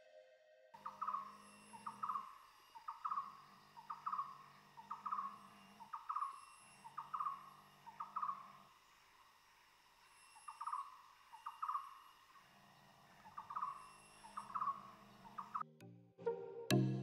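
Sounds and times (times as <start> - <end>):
high-pitched insect drone: 0.8 - 15.6.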